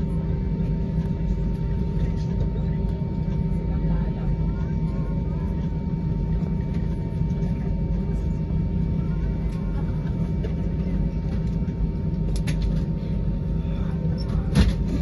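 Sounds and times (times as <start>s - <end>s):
airplane cabin drone: 0.0s - 15.0s.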